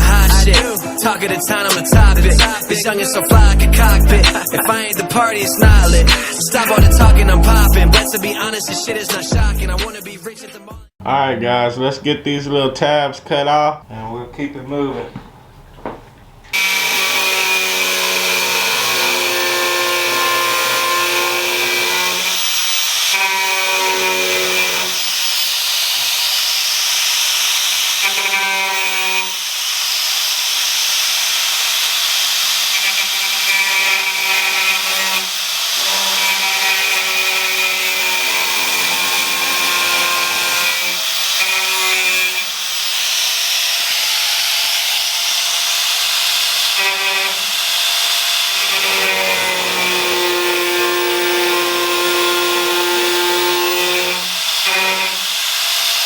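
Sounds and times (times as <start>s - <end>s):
angle grinder cutting metal: 0.0s - 10.1s, 16.5s - 56.0s.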